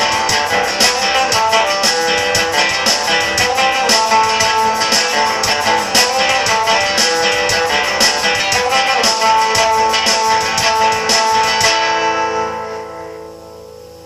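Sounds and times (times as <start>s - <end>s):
guitar strumming: 0.0s - 14.0s.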